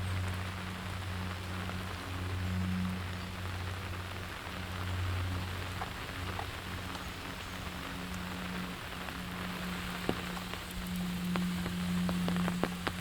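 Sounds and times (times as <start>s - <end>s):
low hum: 0.0s - 13.0s
rain falling: 0.0s - 13.0s
sharp drips ticking: 0.0s - 13.0s.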